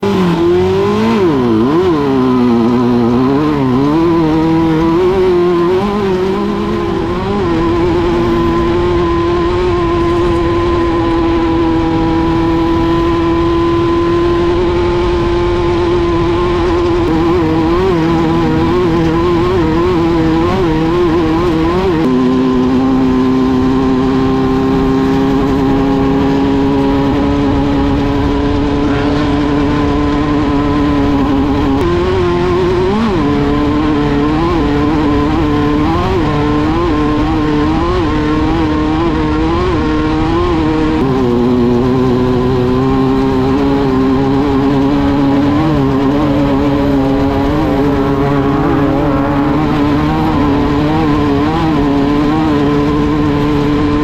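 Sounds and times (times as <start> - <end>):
race buggy engine running hard: 0.0 - 54.0.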